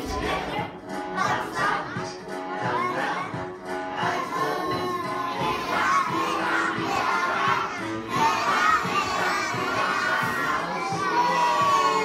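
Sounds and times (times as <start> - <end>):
backing music: 0.0 - 12.0
children shouting and singing: 0.0 - 12.0.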